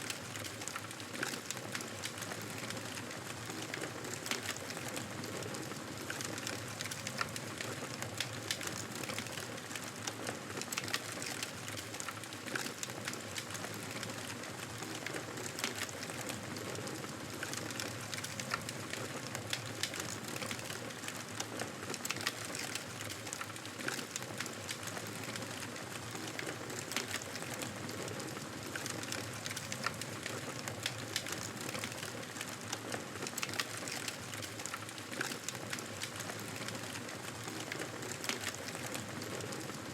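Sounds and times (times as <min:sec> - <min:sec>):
campfire crackling and hissing: 0:00.0 - 0:39.9.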